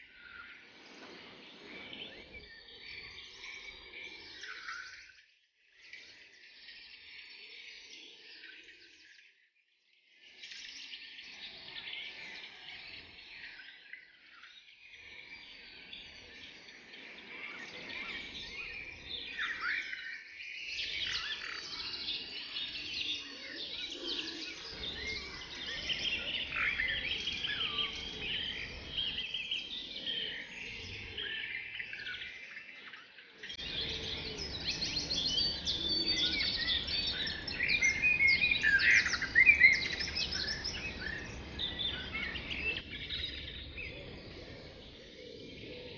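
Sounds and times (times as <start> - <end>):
forest bird chorus: 0.0 - 45.9.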